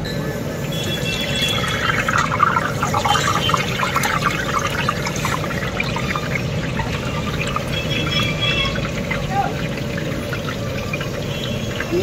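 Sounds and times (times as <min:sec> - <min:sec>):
deep-frying in hot oil: 0:00.1 - 0:12.0.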